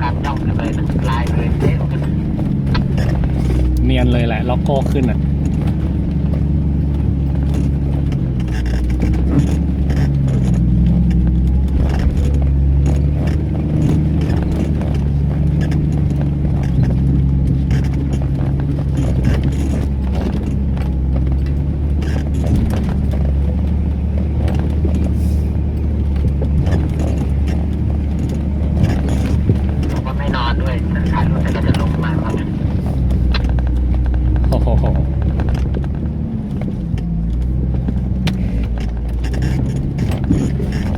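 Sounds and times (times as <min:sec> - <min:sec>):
car engine running: 0:00.0 - 0:40.9
knocks and rattles: 0:00.0 - 0:40.9.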